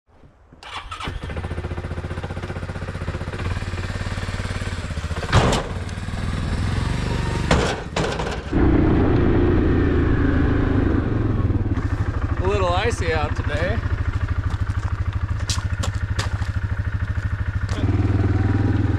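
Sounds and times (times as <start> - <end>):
atv engine running: 1.0 - 18.9.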